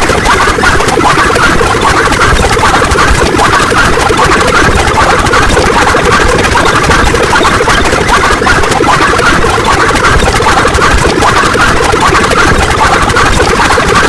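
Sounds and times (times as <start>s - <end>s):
layered sound effects drone: 0.0s - 14.0s.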